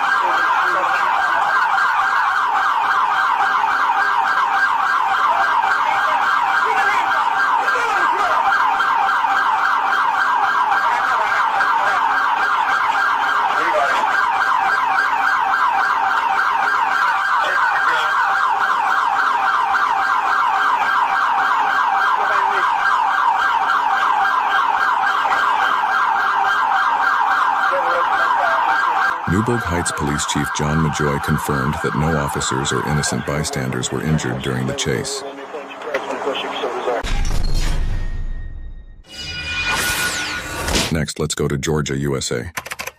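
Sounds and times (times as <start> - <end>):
police siren yelping: 0.0 - 37.3.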